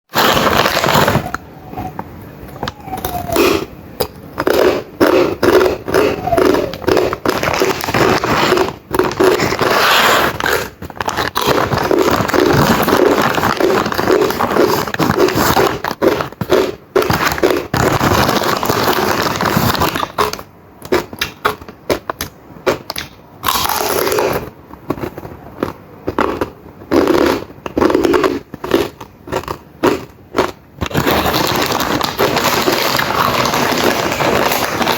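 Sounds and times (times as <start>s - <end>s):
crunchy food chewing: 2.6s - 34.9s.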